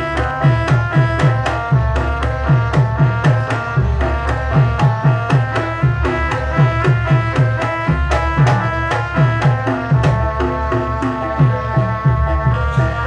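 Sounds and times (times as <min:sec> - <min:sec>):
gamelan music: 0:00.0 - 0:13.0
hand drums beating: 0:00.0 - 0:13.0.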